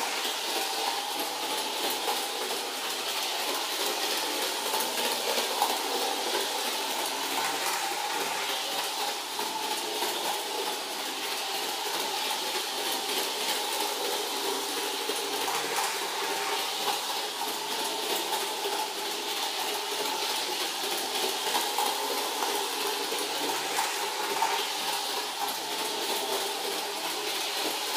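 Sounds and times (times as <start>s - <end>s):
toy train motor whirring: 0.0s - 27.9s.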